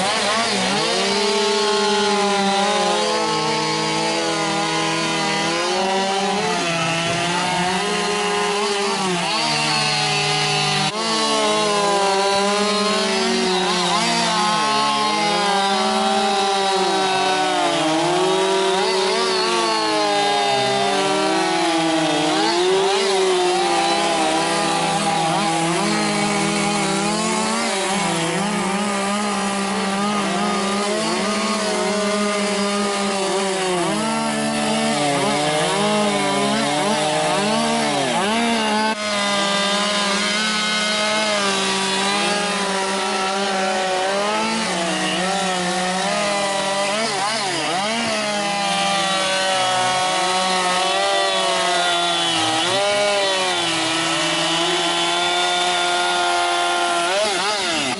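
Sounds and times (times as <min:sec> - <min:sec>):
chainsaws carving wood: 0:00.0 - 0:57.9.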